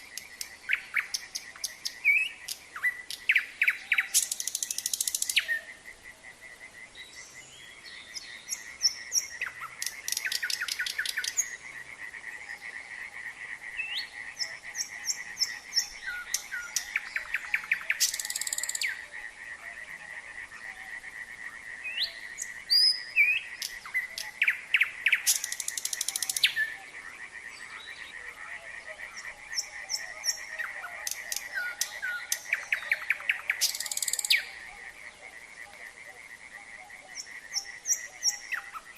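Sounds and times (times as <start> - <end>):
frogs calling: 0.0 - 38.9
nightingale singing: 0.0 - 38.9.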